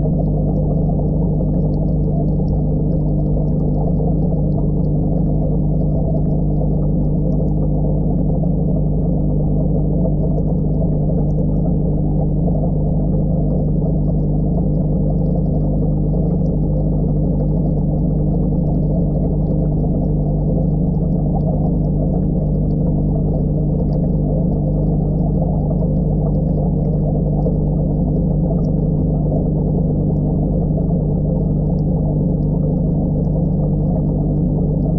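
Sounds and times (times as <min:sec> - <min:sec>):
air bubbling underwater: 0:00.0 - 0:34.9
muffled air pump hum: 0:00.0 - 0:34.9.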